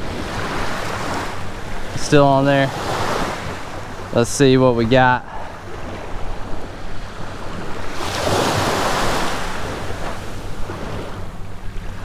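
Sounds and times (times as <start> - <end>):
surf waves washing onto beach: 0.0 - 12.0.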